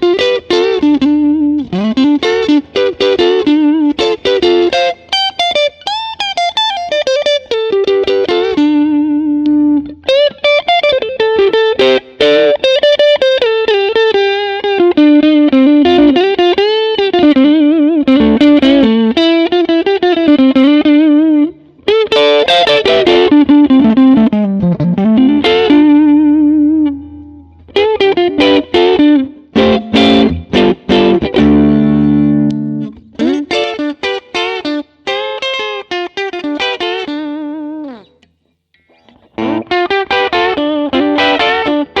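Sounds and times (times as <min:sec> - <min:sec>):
clean electric guitar lead: 0:00.0 - 0:38.2, 0:38.8 - 0:42.0
strummed guitar chords: 0:00.0 - 0:38.2, 0:38.8 - 0:42.0.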